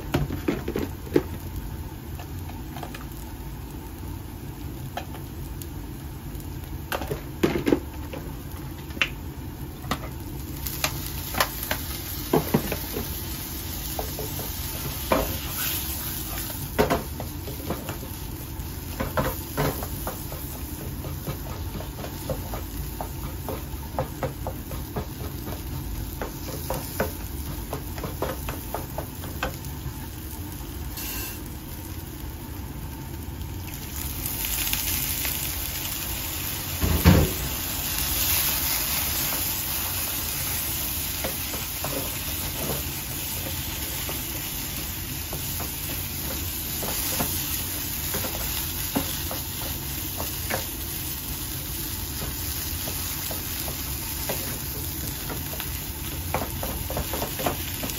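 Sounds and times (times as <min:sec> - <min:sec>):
potatoes sizzling in a pan: 0:00.1 - 0:57.9.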